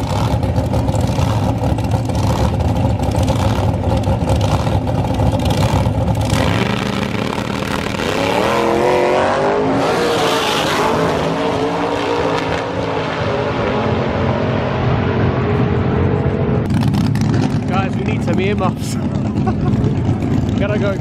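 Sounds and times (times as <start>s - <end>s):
car accelerating hard: 0.0s - 21.0s
drag racing car engines: 0.0s - 21.0s.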